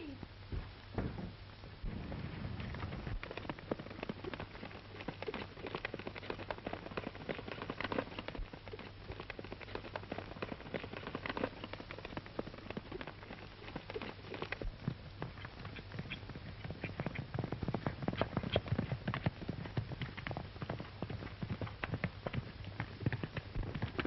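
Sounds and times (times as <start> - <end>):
horse hoofbeats galloping: 0.2 - 24.0.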